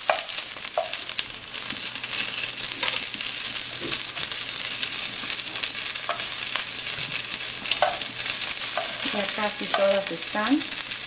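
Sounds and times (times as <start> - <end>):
onions sizzling in fat: 0.0 - 11.0.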